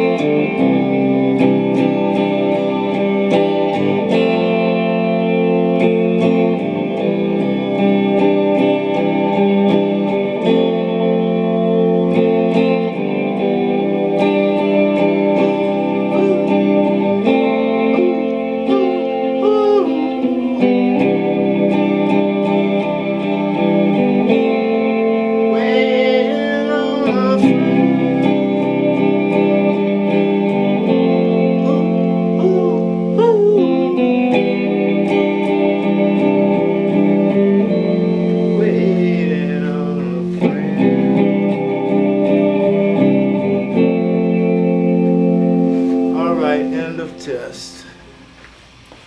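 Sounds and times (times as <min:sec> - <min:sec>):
guitar music: 0:00.0 - 0:49.0.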